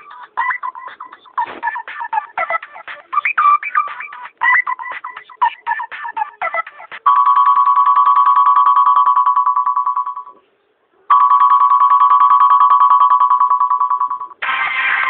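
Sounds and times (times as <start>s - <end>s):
telephone bell ringtone trill: 0.0s - 10.4s, 11.1s - 15.0s.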